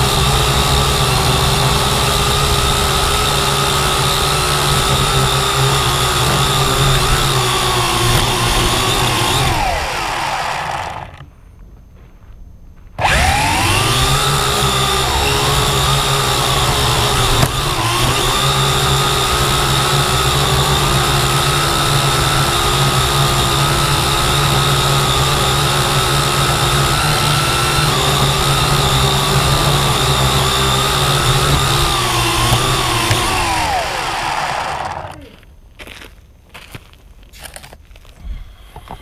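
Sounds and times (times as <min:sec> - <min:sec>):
drone propellers whirring: 0:00.0 - 0:11.3, 0:13.0 - 0:35.3.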